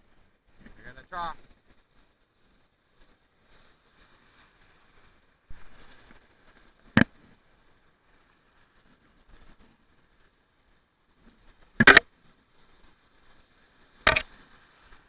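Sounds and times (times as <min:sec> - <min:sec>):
faint surf: 0:00.0 - 0:15.0
rush of water: 0:00.0 - 0:15.0.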